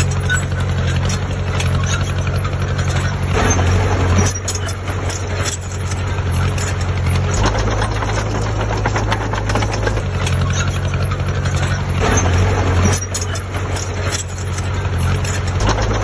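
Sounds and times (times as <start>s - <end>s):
dense mechanical clatter: 0.0s - 16.0s
diesel engine low hum: 0.0s - 16.0s.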